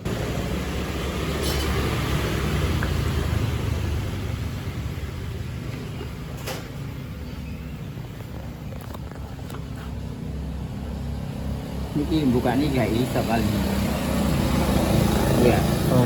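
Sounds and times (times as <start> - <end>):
vehicle rumbling past: 0.0 - 8.8, 9.7 - 16.0.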